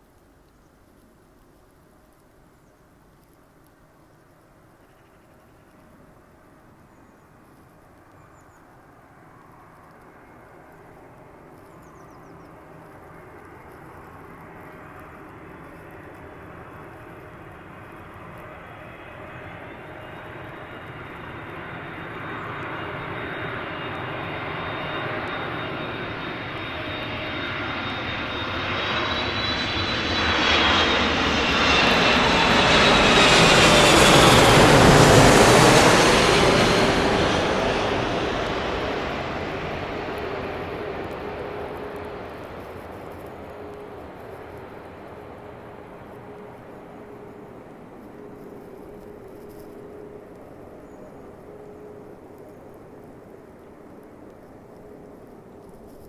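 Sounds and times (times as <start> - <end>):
jet airliner engines whining: 8.9 - 56.0.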